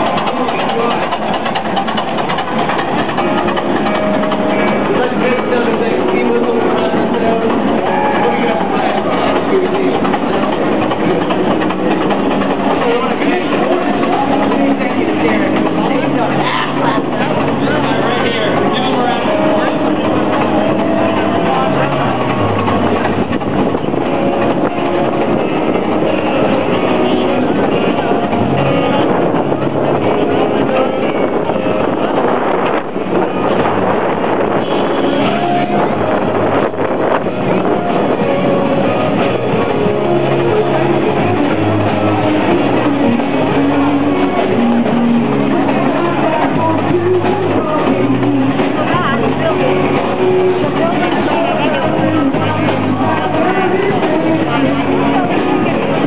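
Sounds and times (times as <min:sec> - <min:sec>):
music with held notes: 0:00.0 - 0:56.0
steady background noise: 0:00.0 - 0:56.0
wheels running on rail: 0:00.0 - 0:56.0.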